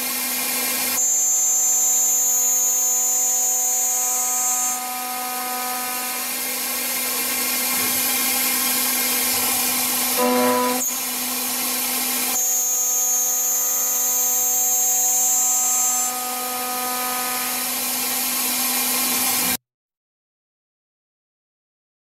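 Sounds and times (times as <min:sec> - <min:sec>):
milling machine hum and whine: 0:00.0 - 0:19.6.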